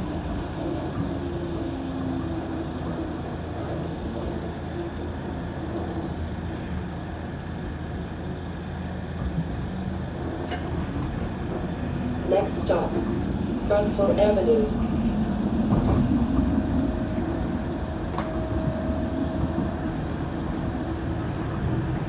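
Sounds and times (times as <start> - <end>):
streetcar drive humming: 0.0 - 22.0
streetcar wheels rumbling on rails: 0.0 - 22.0.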